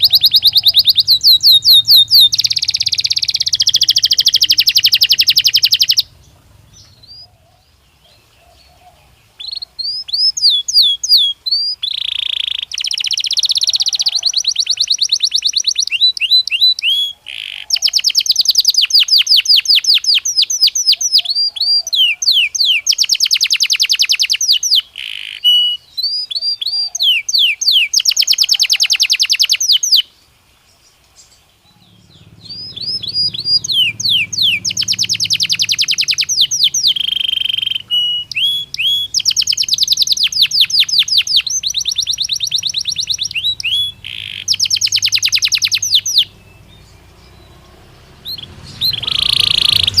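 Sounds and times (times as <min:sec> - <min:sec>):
canary singing trills: 0:00.0 - 0:50.0.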